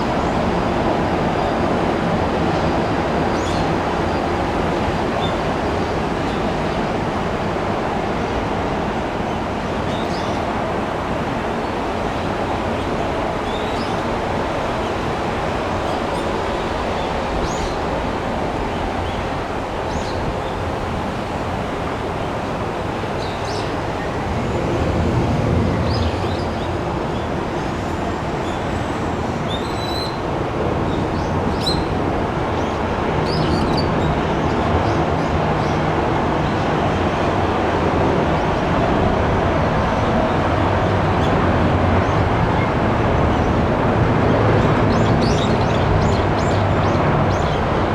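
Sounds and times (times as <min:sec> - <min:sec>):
jet engines rumbling: 0:00.0 - 0:47.9.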